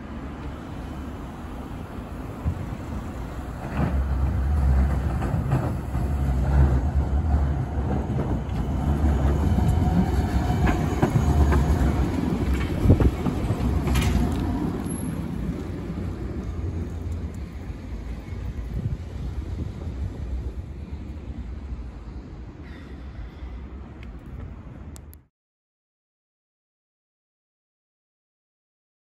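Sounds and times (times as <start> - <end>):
tram wheels rumbling on rails: 0.0 - 25.1.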